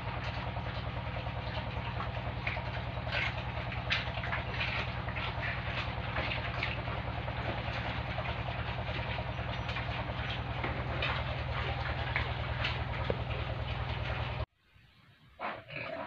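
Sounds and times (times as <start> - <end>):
machine hum: 0.0 - 14.5.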